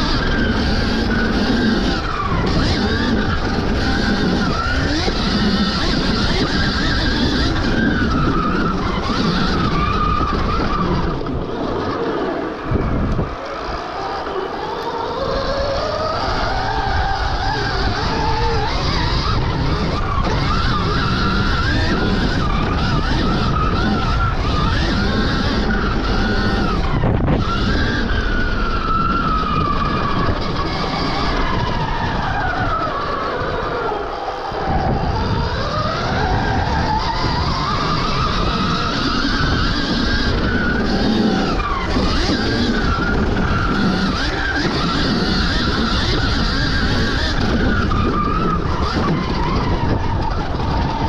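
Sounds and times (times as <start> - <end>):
electric motor whine: 0.0 - 51.0
steady rushing noise: 0.0 - 51.0
wind and tyre noise: 0.0 - 51.0.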